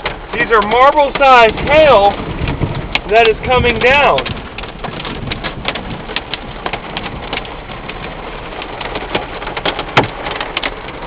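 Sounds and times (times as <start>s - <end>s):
hail striking hard surfaces: 0.0s - 11.0s.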